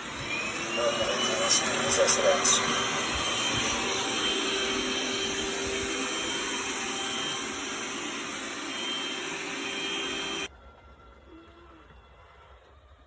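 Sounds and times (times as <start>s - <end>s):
robot vacuum whirring: 0.0s - 10.5s.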